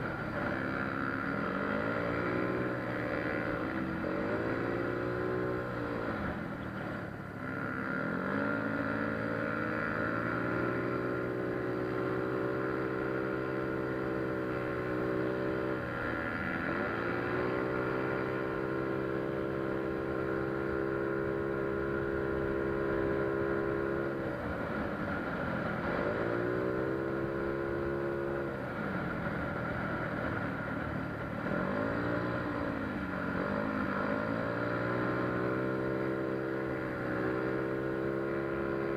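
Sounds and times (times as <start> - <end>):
scooter engine revving: 0.0 - 38.9.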